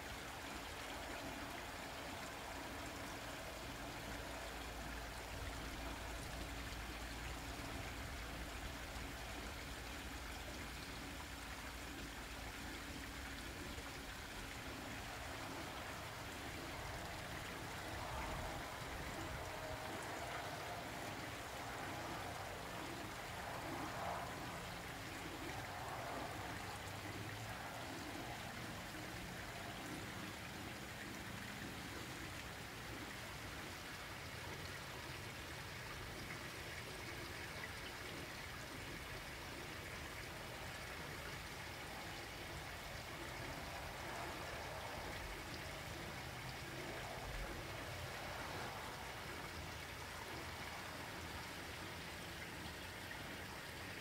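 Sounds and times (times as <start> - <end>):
water trickling into pond: 0.0 - 54.0.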